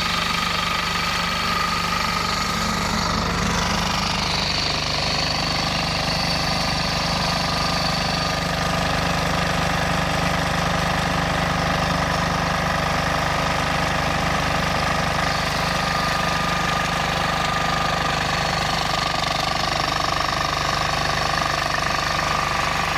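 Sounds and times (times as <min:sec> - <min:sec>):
diesel engine running steadily: 0:00.0 - 0:22.9.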